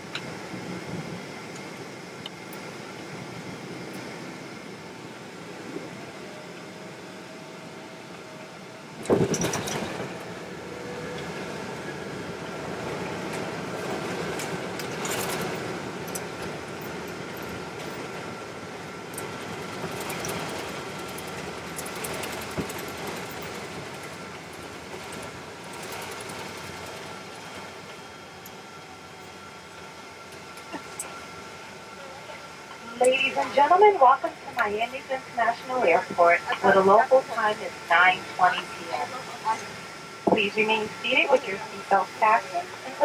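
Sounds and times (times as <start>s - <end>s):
jet engine and airflow rush: 0.0s - 43.0s.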